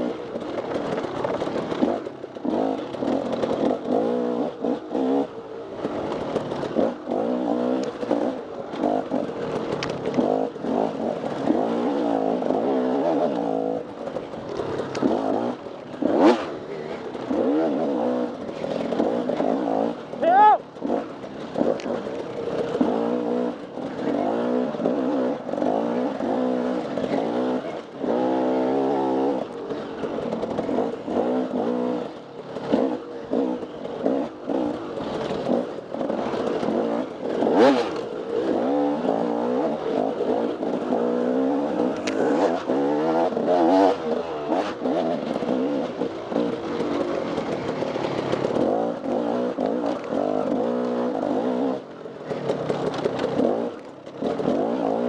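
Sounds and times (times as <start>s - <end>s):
knocks and clatter: 0.0s - 5.0s, 5.8s - 51.6s, 52.2s - 55.0s
dirt bike engine revving: 0.0s - 55.0s.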